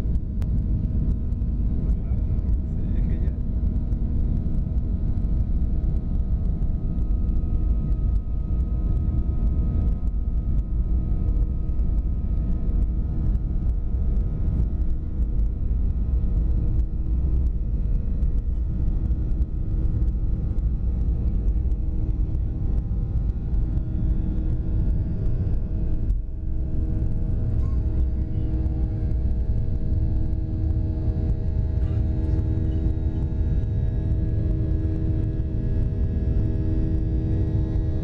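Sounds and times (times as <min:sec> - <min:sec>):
jet engines rumbling from cabin: 0:00.0 - 0:38.0.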